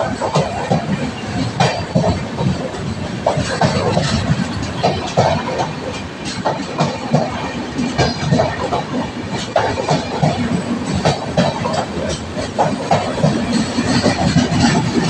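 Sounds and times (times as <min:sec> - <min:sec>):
train passing at speed: 0:00.0 - 0:15.0
wheels clacking over rail joints: 0:00.0 - 0:15.0.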